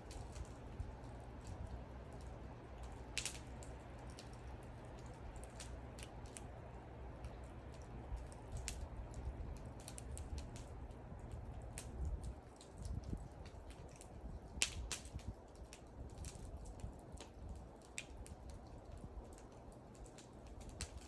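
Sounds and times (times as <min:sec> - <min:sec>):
low steady rumble: 0:00.0 - 0:21.0
wood fire crackling: 0:00.0 - 0:21.0.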